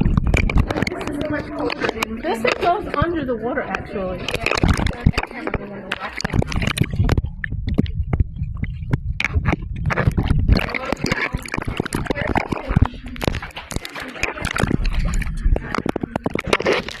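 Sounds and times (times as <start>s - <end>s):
muffled underwater rumble: 0.0s - 17.0s
water splashing and gurgling: 0.0s - 17.0s.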